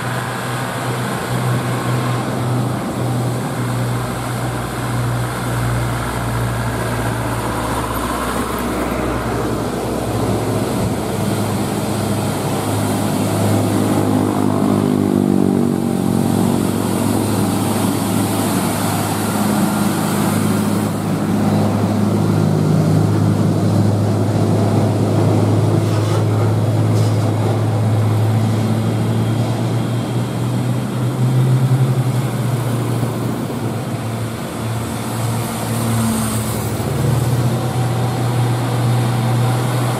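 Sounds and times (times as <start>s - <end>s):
heavy truck engines: 0.0s - 39.9s
truck diesel engine droning: 0.0s - 39.9s.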